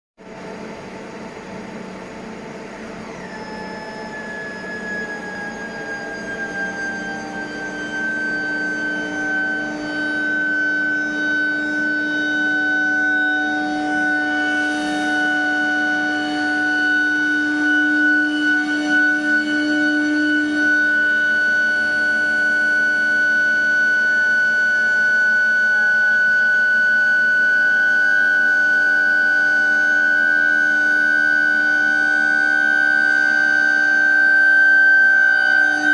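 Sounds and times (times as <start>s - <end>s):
furnace high-pitched whine: 0.2s - 35.9s
lower steady tones: 0.3s - 35.9s.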